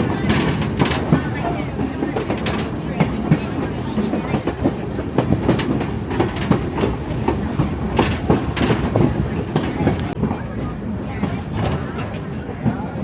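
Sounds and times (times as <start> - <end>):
train cars clattering: 0.0 - 13.0
train wheels rumbling on rail: 0.0 - 13.0.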